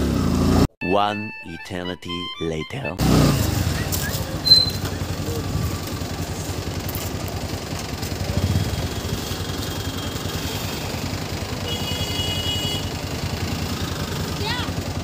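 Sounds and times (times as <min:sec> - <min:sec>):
motorcycle engine running at low revs: 0:00.0 - 0:00.7, 0:03.0 - 0:15.0.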